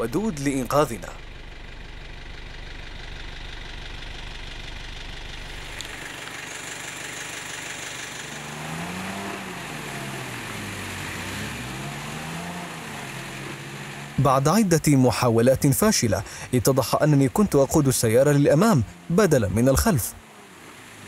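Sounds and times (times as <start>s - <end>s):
vehicle engine idling and revving: 0.0s - 21.0s.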